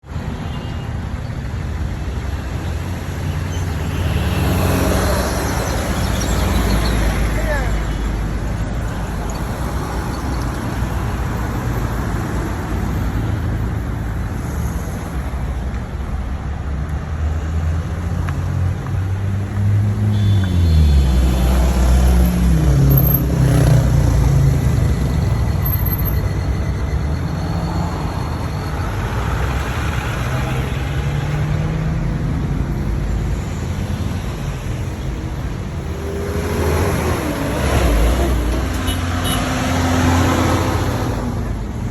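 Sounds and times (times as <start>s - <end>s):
car and truck engines running: 0.0s - 41.9s.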